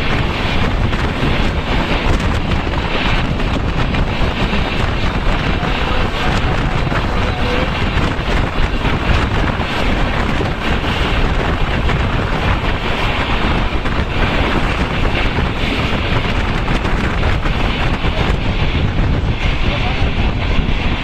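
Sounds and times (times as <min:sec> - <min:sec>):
train coach rumbling: 0:00.0 - 0:21.0
wind buffeting microphone: 0:00.0 - 0:21.0.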